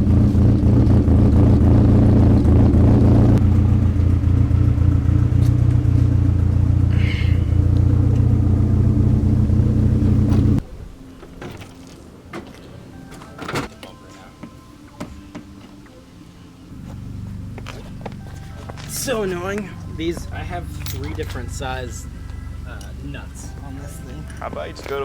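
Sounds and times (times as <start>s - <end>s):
car engine idling lumpily: 0.0s - 12.9s, 14.5s - 25.0s.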